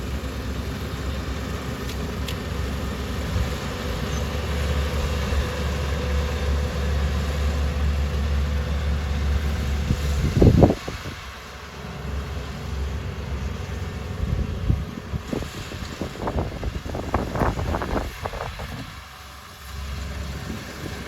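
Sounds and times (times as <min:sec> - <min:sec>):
machine engine humming: 0:00.0 - 0:21.0
windy background: 0:00.0 - 0:21.0.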